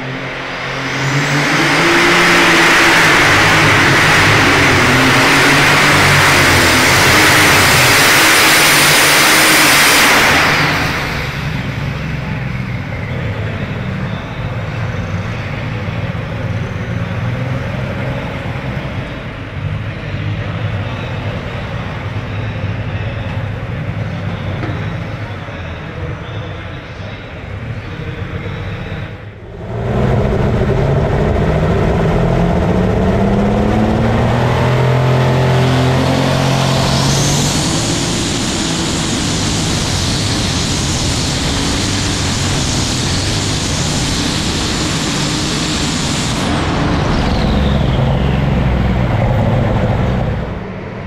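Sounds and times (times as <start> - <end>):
high engine whine: 0.0 - 51.0
pulling tractor engine roaring: 0.0 - 51.0.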